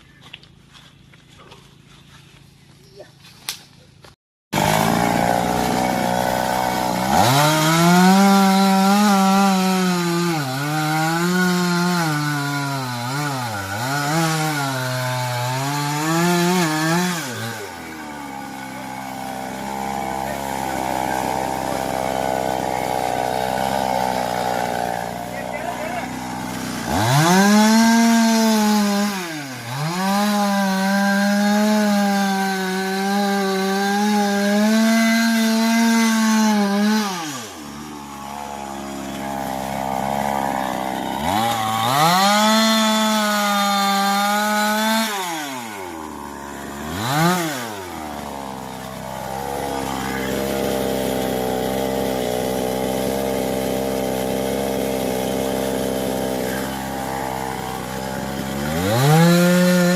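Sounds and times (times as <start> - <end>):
chainsaw cutting wood: 3.4 - 59.9.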